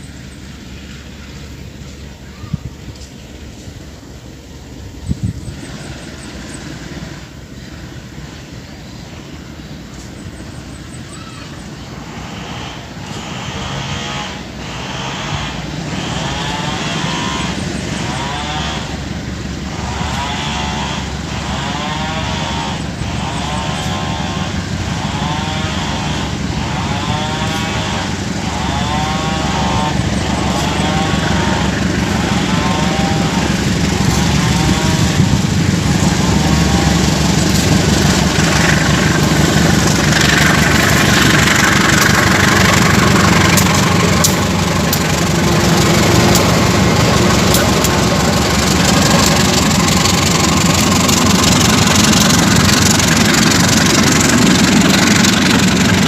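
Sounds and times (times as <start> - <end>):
diesel train engine rumble: 0.0 - 56.0.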